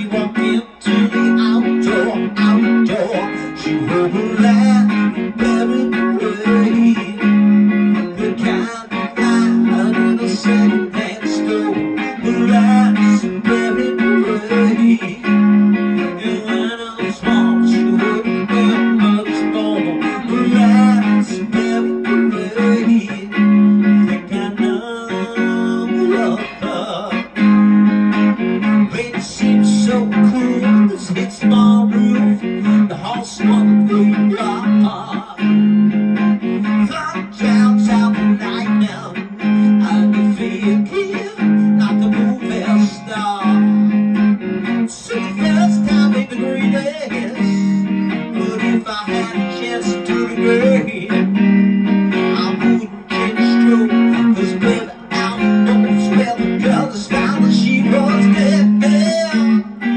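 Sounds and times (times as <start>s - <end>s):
electric guitar riff: 0.0s - 59.9s.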